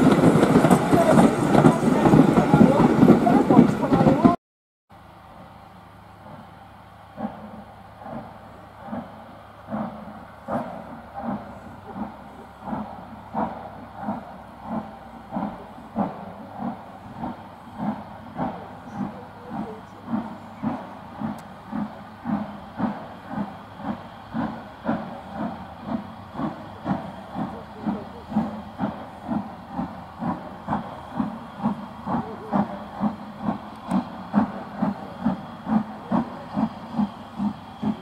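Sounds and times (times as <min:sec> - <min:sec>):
steam locomotive chuffing: 0:00.0 - 0:04.4, 0:05.0 - 0:38.0.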